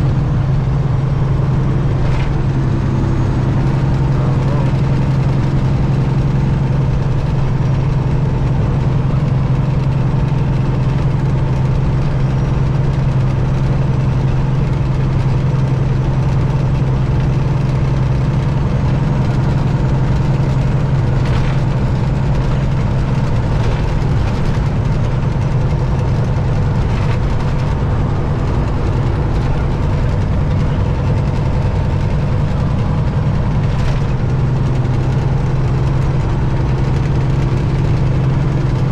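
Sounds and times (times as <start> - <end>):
diesel truck engine droning: 0.0 - 38.9.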